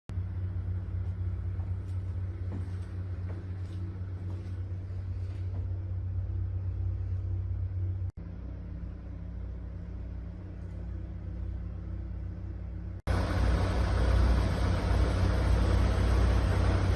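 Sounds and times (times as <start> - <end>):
engine humming: 0.1 - 16.9.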